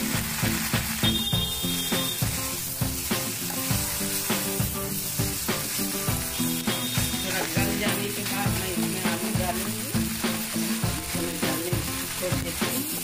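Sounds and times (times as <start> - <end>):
background music: 0.0 - 13.0
food sizzling in a pan: 0.0 - 13.0
spatula stirring and scraping: 1.7 - 13.0.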